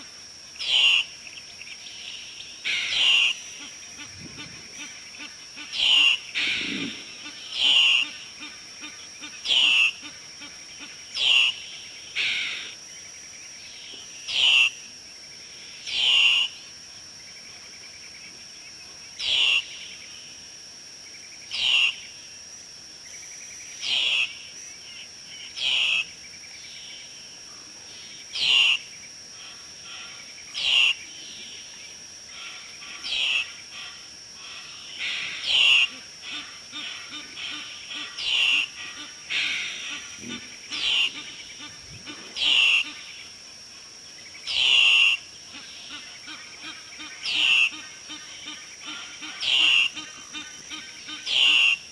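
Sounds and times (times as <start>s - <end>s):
steady high-pitched whine: 0.0s - 51.9s
birds calling loudly: 0.6s - 14.8s, 19.2s - 20.1s, 21.5s - 22.1s, 23.1s - 27.0s, 27.9s - 31.5s, 32.2s - 43.4s, 44.1s - 51.9s.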